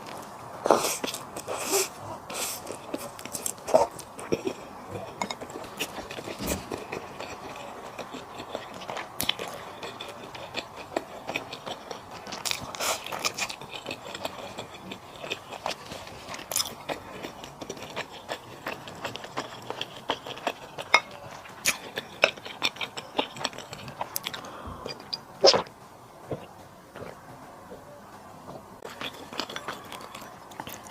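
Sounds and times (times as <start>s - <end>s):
chewing mouth sounds: 0.7s - 25.7s, 28.8s - 30.9s.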